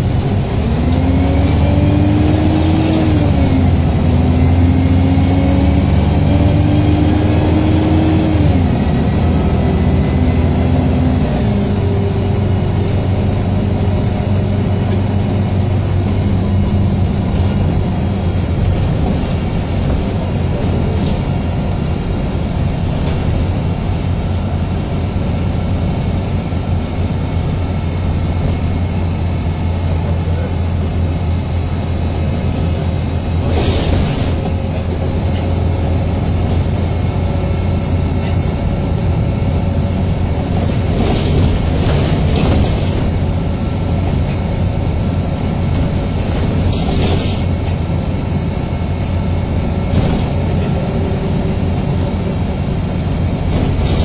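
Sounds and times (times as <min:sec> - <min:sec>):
bus diesel engine drone: 0:00.0 - 0:54.0
road noise: 0:00.0 - 0:54.0.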